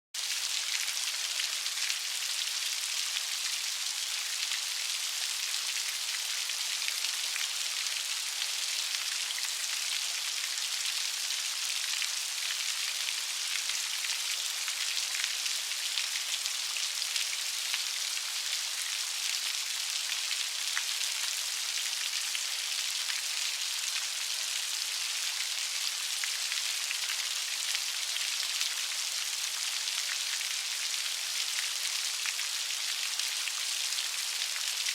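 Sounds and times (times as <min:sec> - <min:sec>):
light rain pattering: 0:00.2 - 0:34.9.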